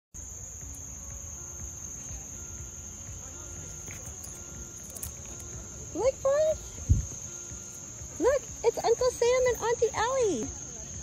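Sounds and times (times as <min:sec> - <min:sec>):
insects trilling: 0:00.2 - 0:11.0.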